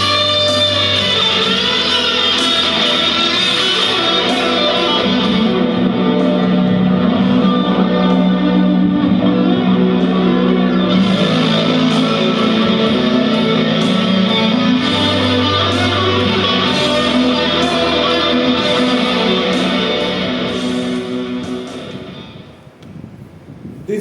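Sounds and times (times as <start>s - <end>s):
electric guitar strumming chords: 0.0s - 22.4s.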